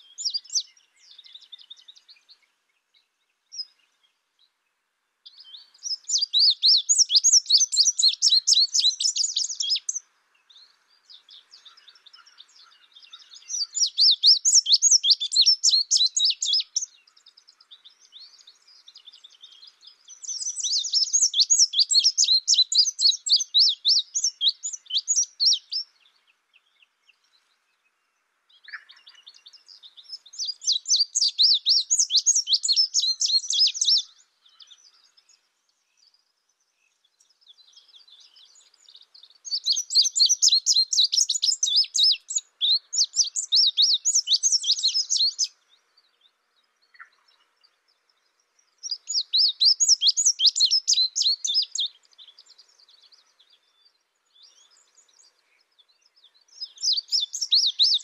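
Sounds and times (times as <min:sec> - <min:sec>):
bird singing high chirps: 0:00.0 - 0:04.2, 0:05.2 - 0:58.0.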